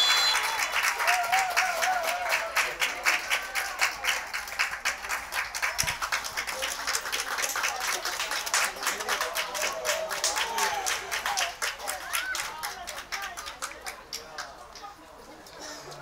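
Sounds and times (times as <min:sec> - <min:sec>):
spectators clapping: 0:00.0 - 0:16.0.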